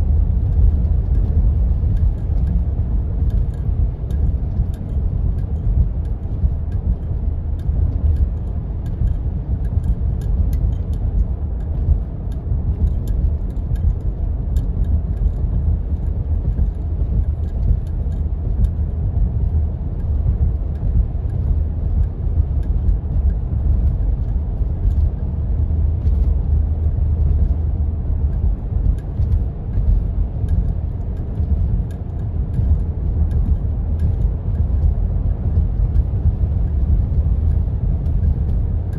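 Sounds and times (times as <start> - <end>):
light ticks and rattles: 0.0 - 38.9
vehicle engine and tyres rumbling: 0.0 - 38.9.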